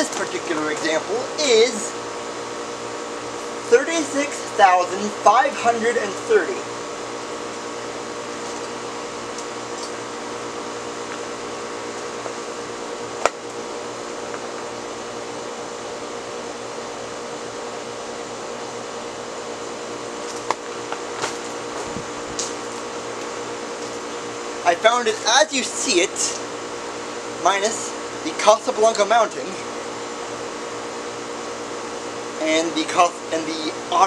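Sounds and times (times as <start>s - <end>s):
ceiling fan running: 0.0s - 34.0s.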